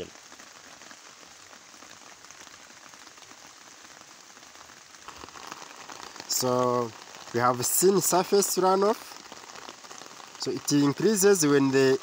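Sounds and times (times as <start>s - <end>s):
faint hiss with crackle: 0.0s - 12.0s.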